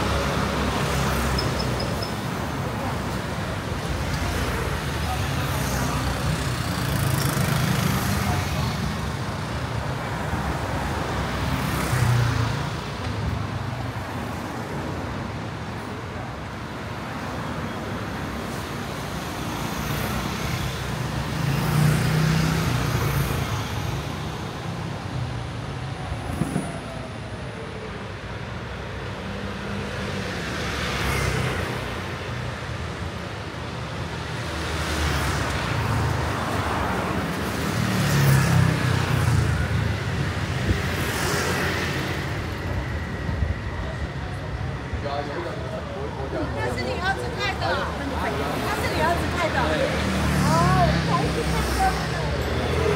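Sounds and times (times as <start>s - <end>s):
road noise hum: 0.0s - 52.9s
vehicles passing: 0.0s - 52.9s.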